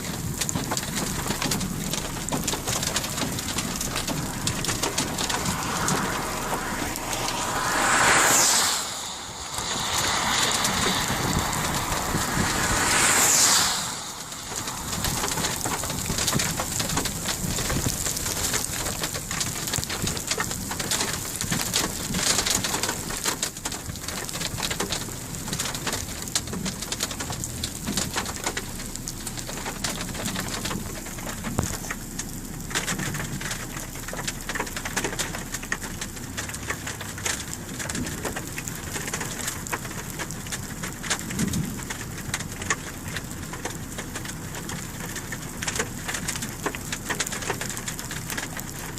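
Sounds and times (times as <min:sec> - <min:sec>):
raindrops clicking on hard surface: 0:00.0 - 0:08.8, 0:09.5 - 0:48.9
heavy rain falling: 0:00.0 - 0:48.9.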